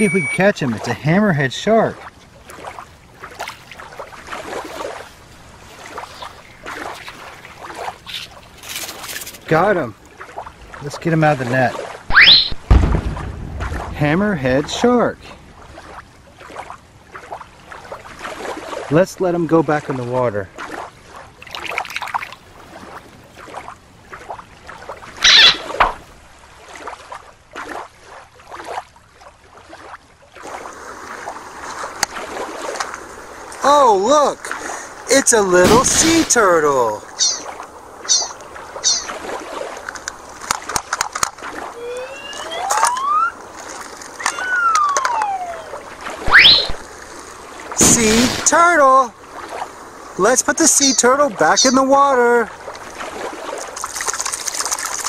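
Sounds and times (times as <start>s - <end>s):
shallow water splashing: 0.0s - 55.0s.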